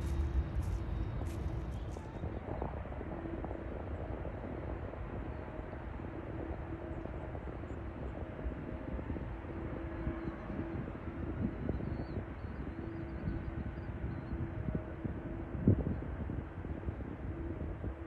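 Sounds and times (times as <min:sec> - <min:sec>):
distant jet engines rumbling: 0:00.0 - 0:16.7.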